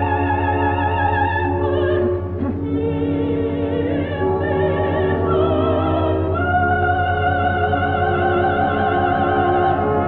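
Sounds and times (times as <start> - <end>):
operatic singing: 0.0 - 10.0
orchestra: 0.0 - 10.0.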